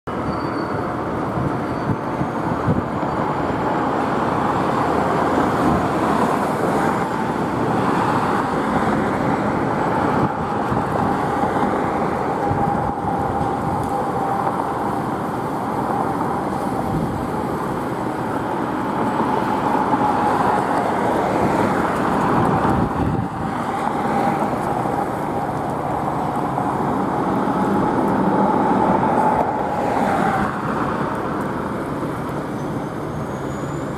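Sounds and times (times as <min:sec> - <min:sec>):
road traffic: 0:00.0 - 0:33.9
vehicle engines running: 0:00.1 - 0:33.9.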